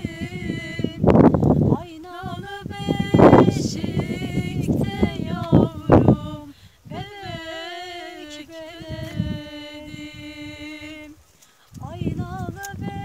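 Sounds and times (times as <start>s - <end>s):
person singing unaccompanied: 0.0s - 13.0s
wind rumble on microphone: 0.0s - 13.0s.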